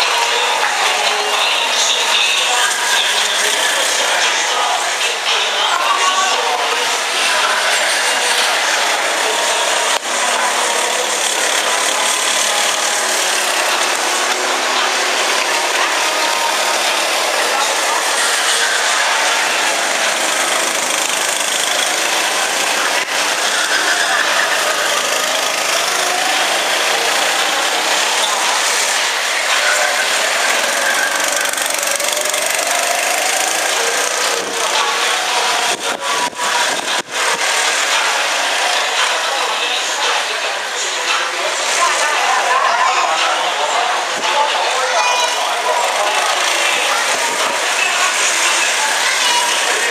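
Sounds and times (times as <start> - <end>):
go-kart engine buzzing: 0.0 - 49.9.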